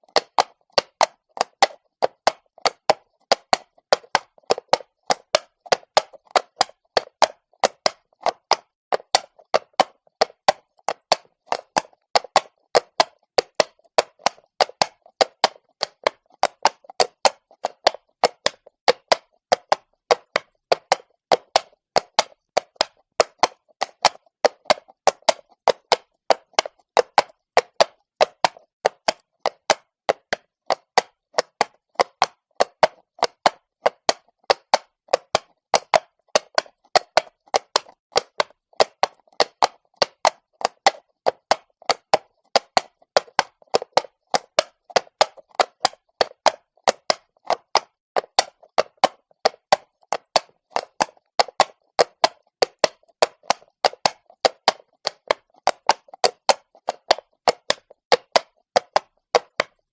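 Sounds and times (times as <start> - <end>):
horse hooves on cobblestone: 0.1 - 59.9.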